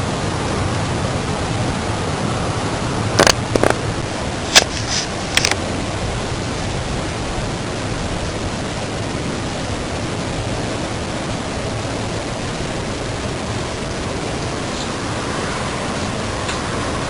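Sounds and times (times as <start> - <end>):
jet-like roar in the sky: 0.0 - 17.0.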